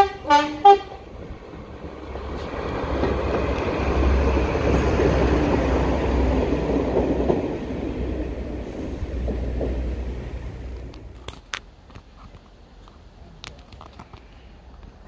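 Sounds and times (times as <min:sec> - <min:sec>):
diesel engine rumble: 0:00.0 - 0:15.0
train wheels on track: 0:00.0 - 0:15.0.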